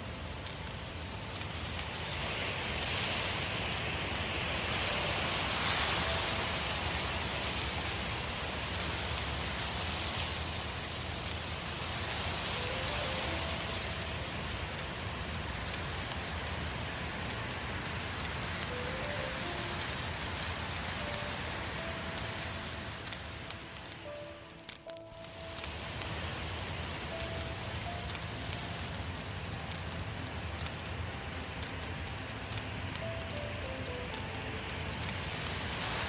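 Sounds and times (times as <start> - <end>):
fire crackling and hissing: 0.0 - 36.0.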